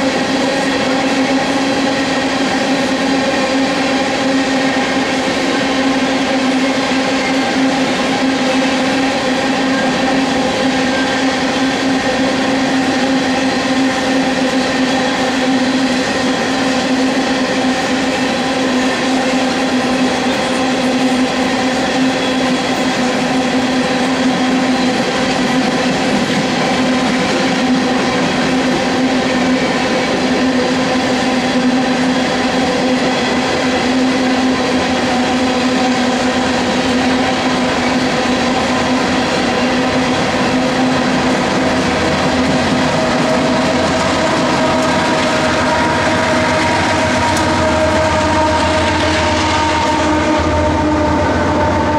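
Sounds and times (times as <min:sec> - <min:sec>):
diesel locomotive engine drone: 0:00.0 - 0:51.9
train wheels clattering: 0:00.0 - 0:51.9.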